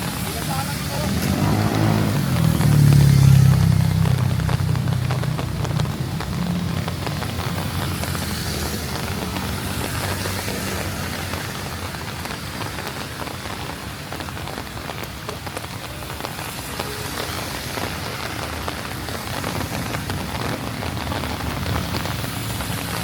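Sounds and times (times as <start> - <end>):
rain falling on street: 0.0 - 23.0.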